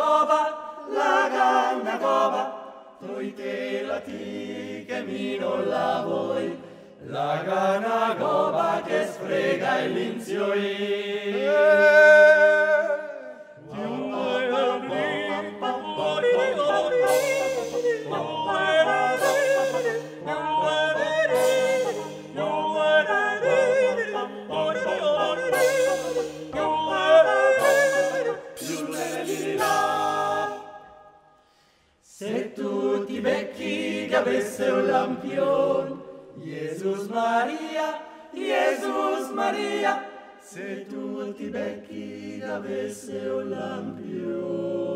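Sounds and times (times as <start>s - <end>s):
male vocal group singing: 0.0s - 31.0s, 32.1s - 44.9s.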